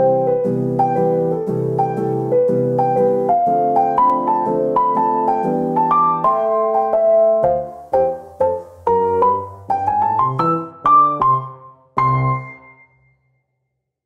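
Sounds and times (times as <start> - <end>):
gentle piano music: 0.0 - 13.1.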